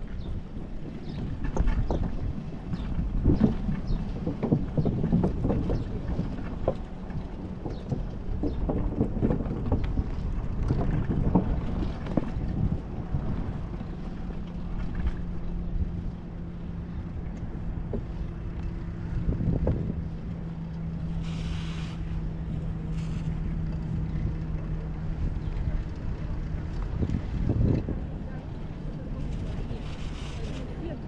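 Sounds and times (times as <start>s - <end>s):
low traffic motor hum: 0.0s - 31.0s
wind rumbling on microphone: 0.0s - 31.0s.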